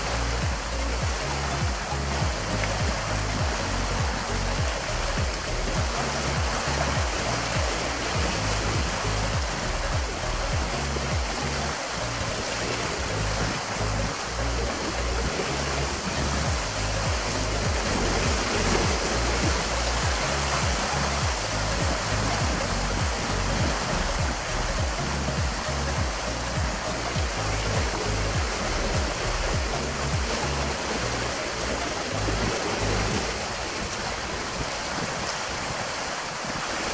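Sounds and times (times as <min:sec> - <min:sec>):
lake water lapping at shore: 0:00.0 - 0:36.9
wind rumbling on microphone: 0:00.0 - 0:36.9.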